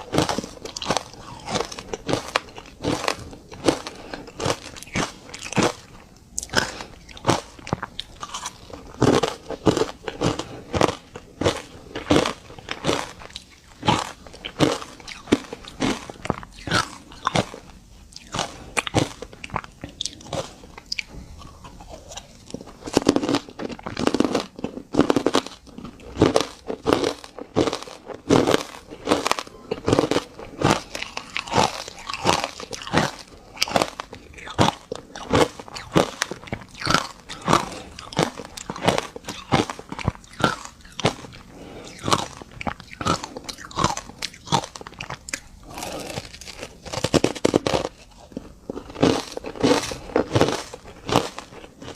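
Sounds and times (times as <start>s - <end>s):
ice being chewed crunching: 0.0s - 51.9s.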